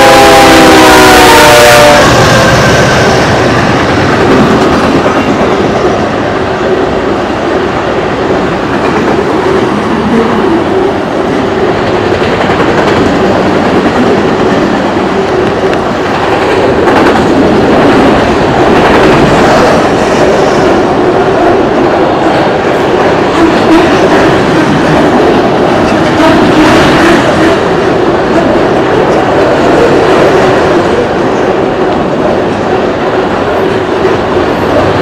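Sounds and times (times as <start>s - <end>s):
freight train passing: 0.0s - 35.0s.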